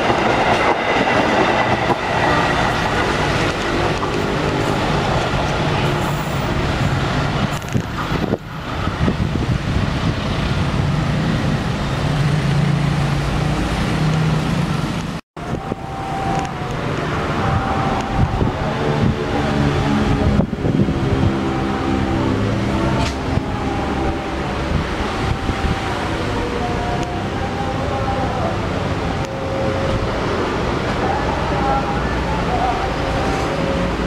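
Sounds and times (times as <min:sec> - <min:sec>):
train carriages rumbling: 0:00.0 - 0:34.0.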